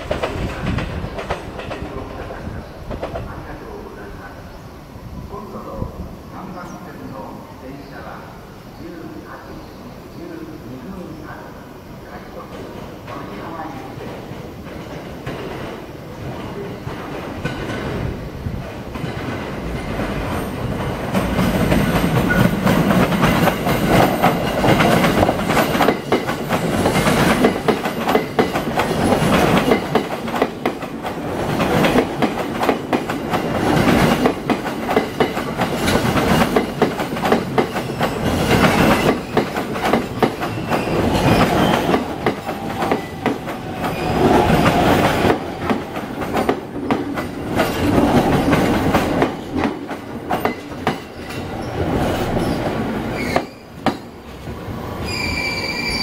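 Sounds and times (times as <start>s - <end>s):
train wheels clattering over rails: 0.0s - 3.5s, 12.5s - 54.6s.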